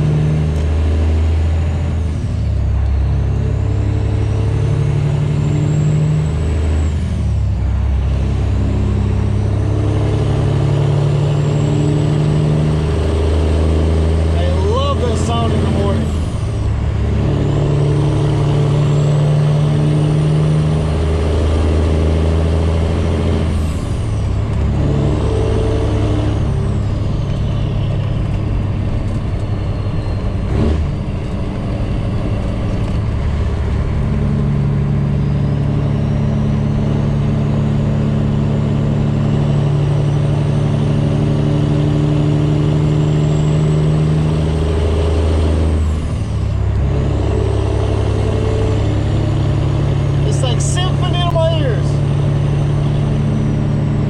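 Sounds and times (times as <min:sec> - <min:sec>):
diesel truck engine: 0:00.0 - 0:54.0.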